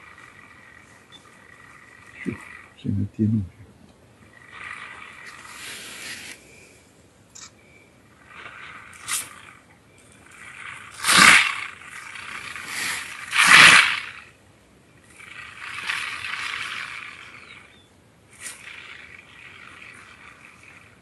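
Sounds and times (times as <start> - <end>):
porcupine rattling quills: 0.0 - 2.8, 4.2 - 6.7, 8.1 - 14.3, 15.0 - 21.0.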